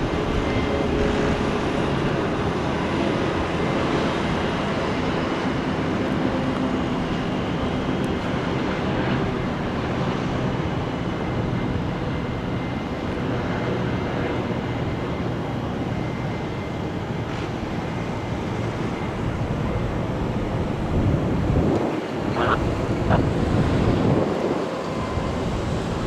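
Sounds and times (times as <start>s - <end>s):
faint engine whine: 0.0s - 26.0s
jet engines rumbling: 0.0s - 26.0s.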